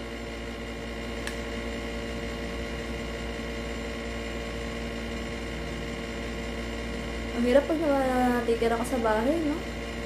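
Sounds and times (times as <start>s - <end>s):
household appliance humming: 0.0s - 10.0s.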